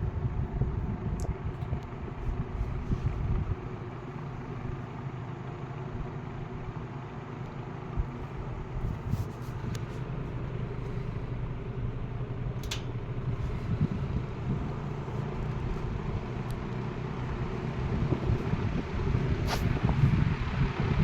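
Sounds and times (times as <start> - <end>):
box fan motor hum and air rush: 0.0 - 21.0.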